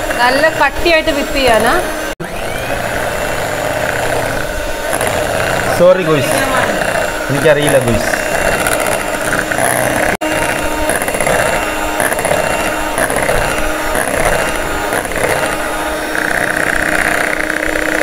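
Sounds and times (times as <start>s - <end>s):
electric mixer whipping cream: 0.0s - 18.0s.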